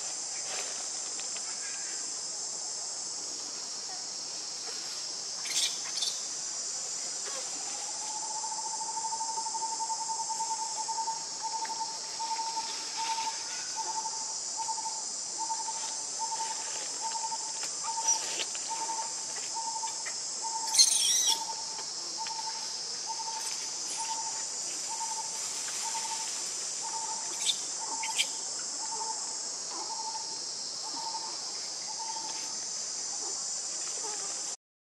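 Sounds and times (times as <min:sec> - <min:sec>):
insect chorus: 0:00.0 - 0:34.6.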